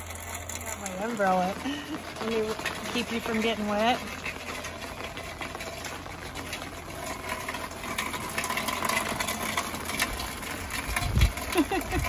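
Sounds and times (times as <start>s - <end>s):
rain drops tapping: 0.0s - 12.0s.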